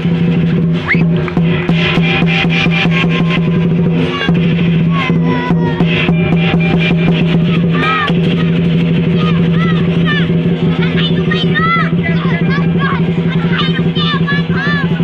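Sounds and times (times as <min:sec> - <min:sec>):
fast percussion strikes: 0:00.0 - 0:15.0
steady low held tone: 0:00.0 - 0:15.0.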